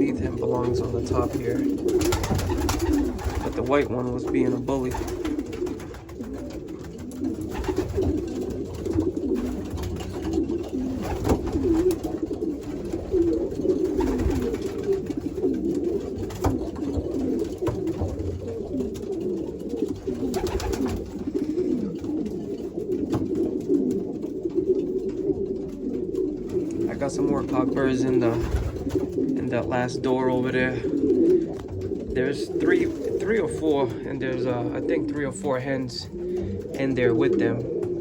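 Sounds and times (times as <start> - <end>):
pigeons cooing chorus: 0.0 - 38.0.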